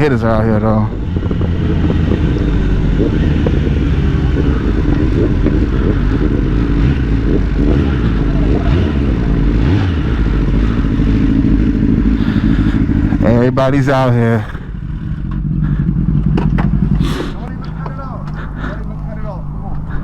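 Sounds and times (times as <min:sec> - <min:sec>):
motorcycle engines running: 0:00.0 - 0:20.0.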